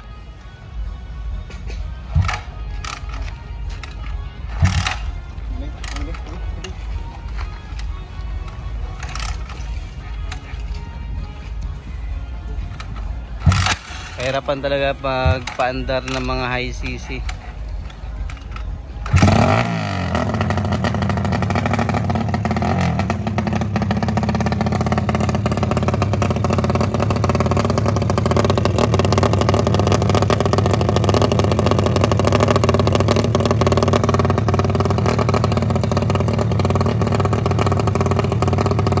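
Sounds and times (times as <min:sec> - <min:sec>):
motorcycle engine idling: 0:00.8 - 0:39.0.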